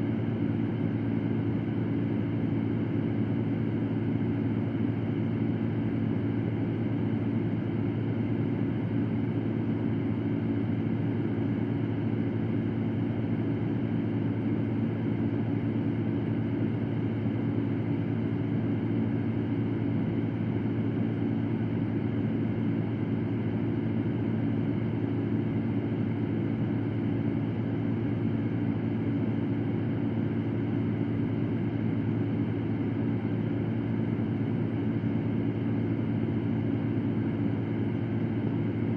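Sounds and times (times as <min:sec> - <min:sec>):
electric fan running: 0:00.0 - 0:38.9.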